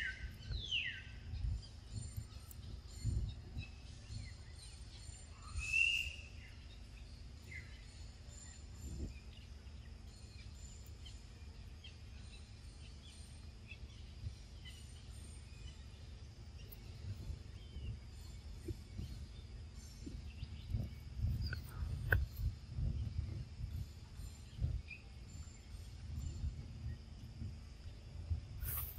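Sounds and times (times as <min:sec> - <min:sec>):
faint bird chirps: 0:00.0 - 0:28.9
low steady rumble: 0:00.0 - 0:28.9.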